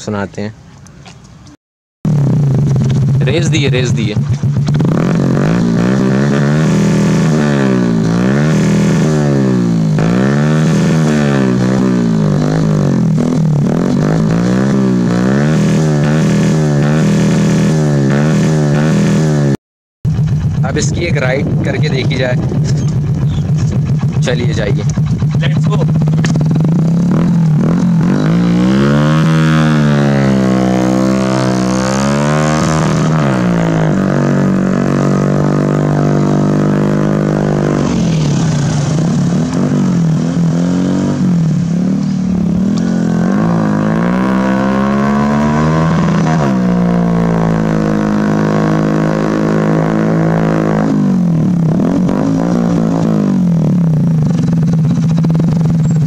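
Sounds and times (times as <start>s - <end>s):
motorcycle engine running: 2.1s - 56.0s.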